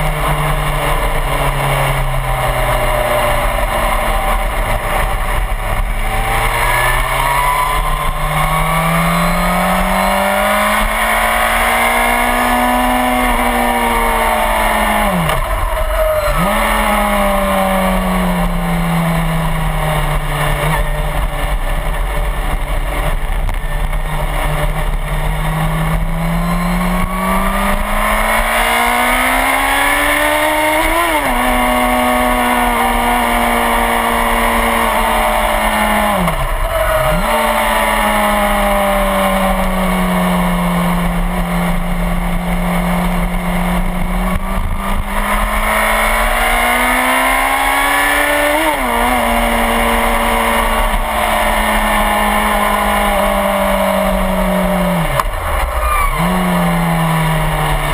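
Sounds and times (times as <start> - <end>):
motorcycle engine pulling hard: 0.0 - 57.9.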